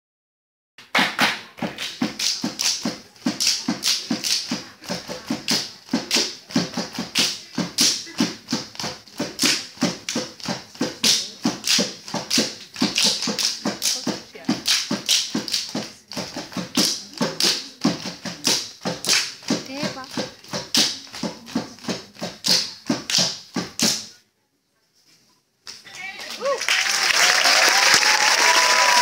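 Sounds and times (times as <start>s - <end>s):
people clapping in unison: 0.8s - 24.1s, 25.7s - 29.0s.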